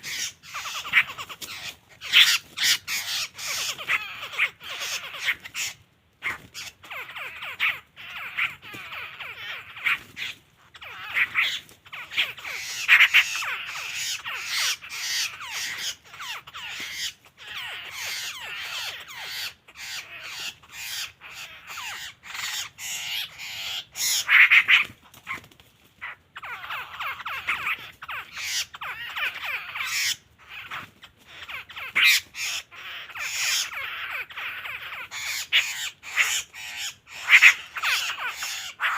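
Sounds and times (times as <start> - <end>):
birds chattering harshly: 0.0 - 38.9.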